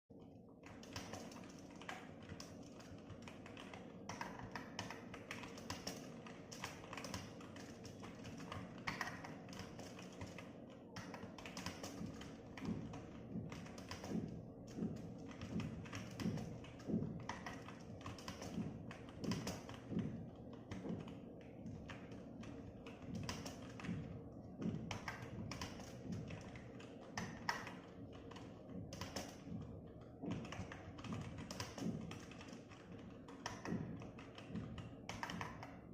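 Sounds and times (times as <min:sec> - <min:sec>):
keyboard typing: 0:00.6 - 0:35.9.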